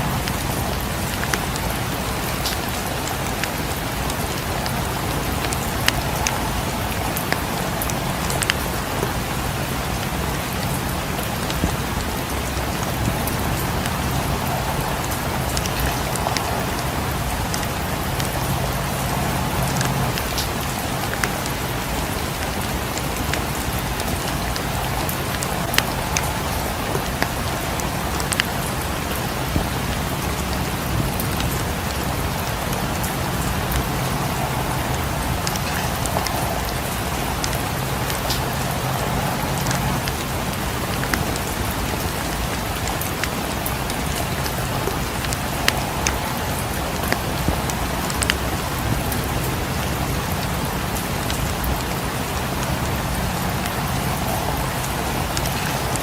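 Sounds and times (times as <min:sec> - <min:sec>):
steady rain: 0:00.0 - 0:56.0
wood fire popping and crackling: 0:00.0 - 0:56.0.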